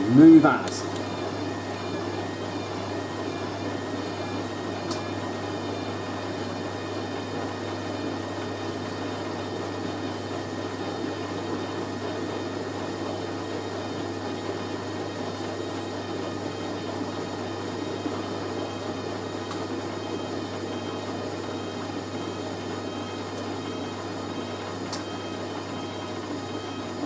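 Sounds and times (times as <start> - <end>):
washing machine spinning: 0.0 - 27.0.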